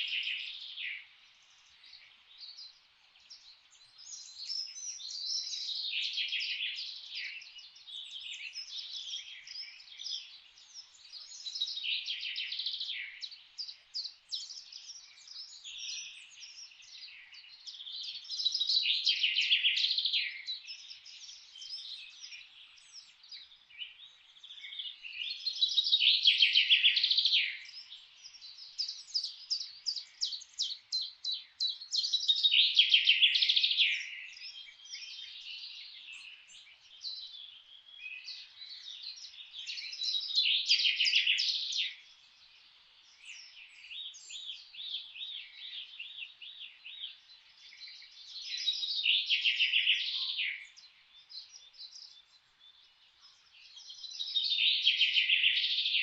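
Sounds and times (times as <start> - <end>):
quiet bird chirps: 0.0 - 56.0
songbirds trilling: 0.0 - 56.0.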